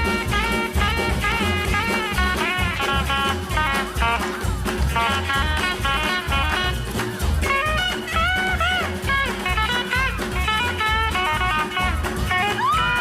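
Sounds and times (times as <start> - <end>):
upbeat rock and roll music: 0.0 - 13.0.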